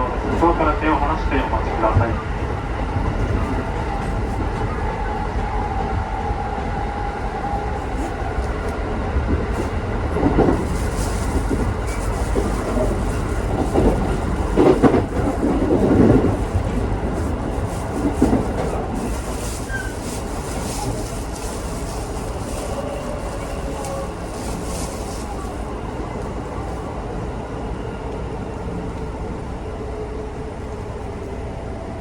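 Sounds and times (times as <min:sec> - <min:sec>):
heavy train clunks: 0:00.0 - 0:32.0
train running rumble: 0:00.0 - 0:32.0.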